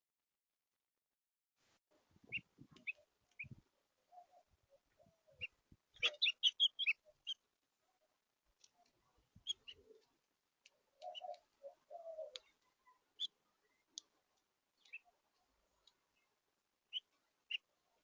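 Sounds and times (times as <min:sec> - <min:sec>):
small birds chirping: 0:02.1 - 0:18.0.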